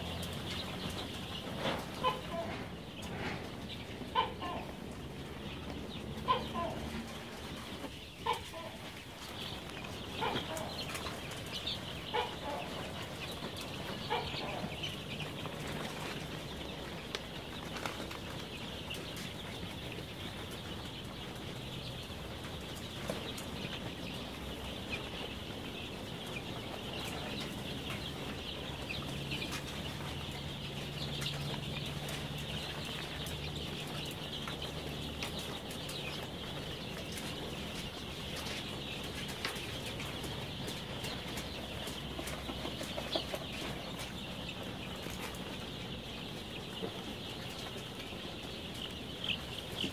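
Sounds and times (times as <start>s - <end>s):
flock of chicks peeping: 0.0s - 49.9s.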